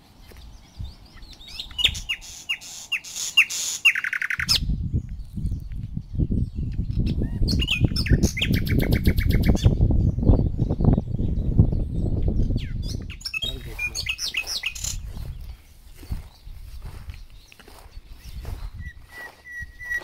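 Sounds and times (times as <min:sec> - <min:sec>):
wind on microphone: 0:00.0 - 0:02.3, 0:04.4 - 0:20.0
small birds chirping: 0:00.0 - 0:20.0.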